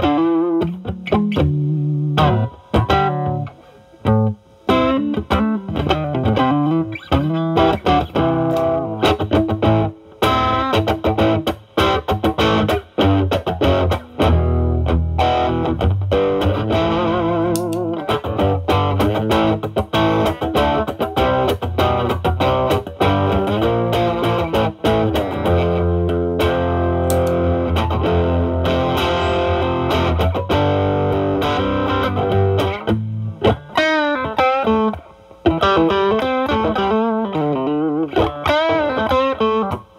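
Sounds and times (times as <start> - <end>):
overdriven electric guitar playing: 0.0 - 39.9.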